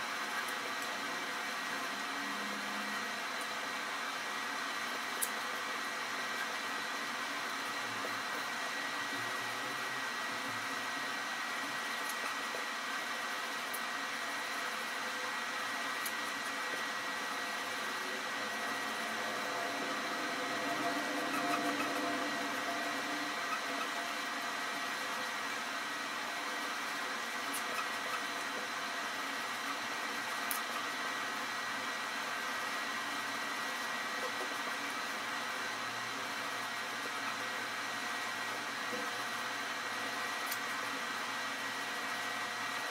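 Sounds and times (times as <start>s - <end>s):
high steady whine: 0.0s - 42.9s.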